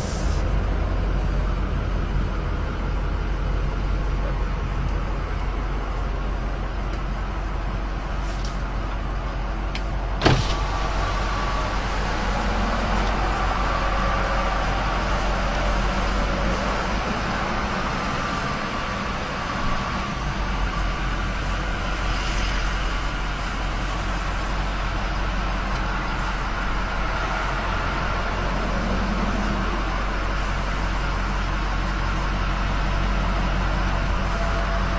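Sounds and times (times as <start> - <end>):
road and engine noise in cabin: 0.0 - 34.9.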